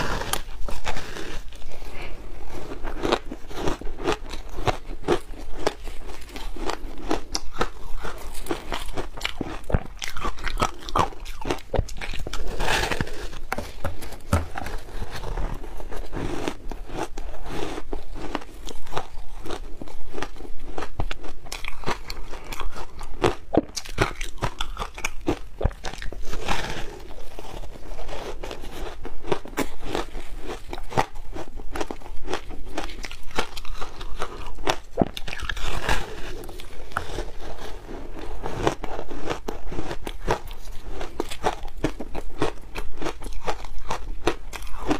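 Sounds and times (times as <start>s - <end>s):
chewing crunchy ice: 0.0s - 44.9s.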